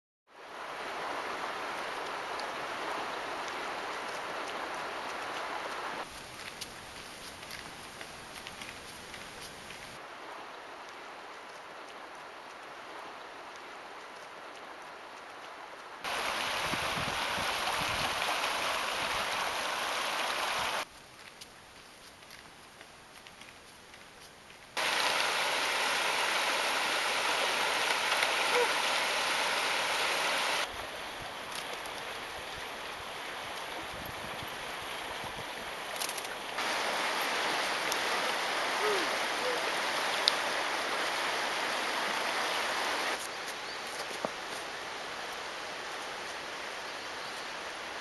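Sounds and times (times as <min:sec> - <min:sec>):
flowing river water: 0:00.3 - 0:21.3, 0:24.8 - 0:48.0.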